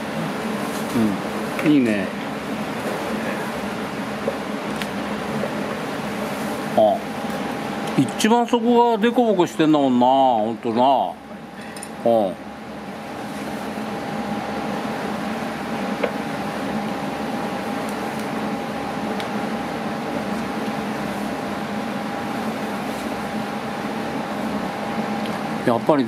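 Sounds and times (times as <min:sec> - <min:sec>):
fan machine whirring: 0:00.0 - 0:26.0.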